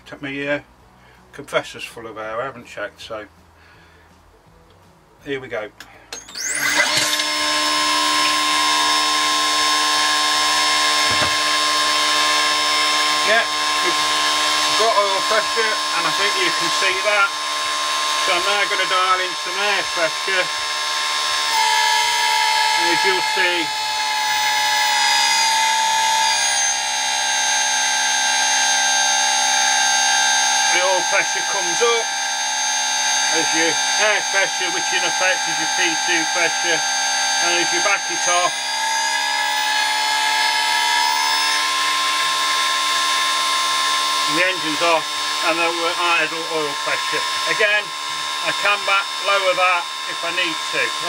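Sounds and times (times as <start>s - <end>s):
electric pump motor whine: 6.0s - 51.0s.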